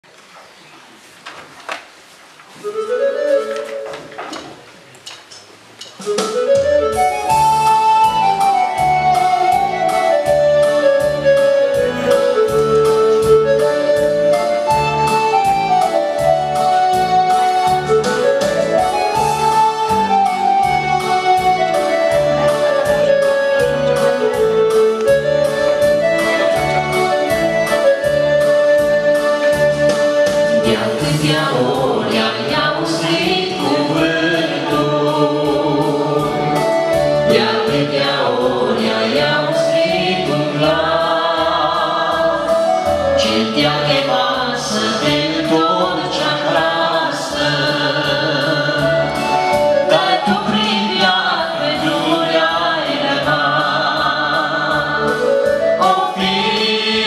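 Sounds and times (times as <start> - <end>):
keyboard playing instrumental music: 2.6 - 4.5, 6.0 - 57.0.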